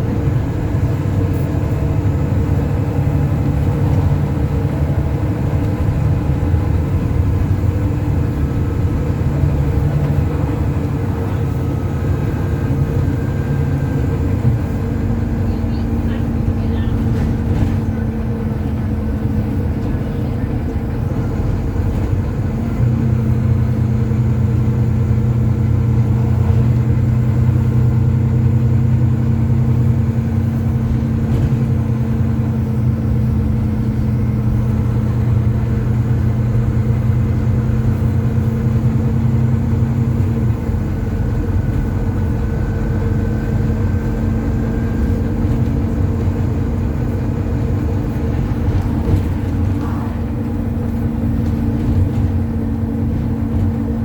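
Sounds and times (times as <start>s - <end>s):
diesel bus engine droning: 0.0s - 54.0s.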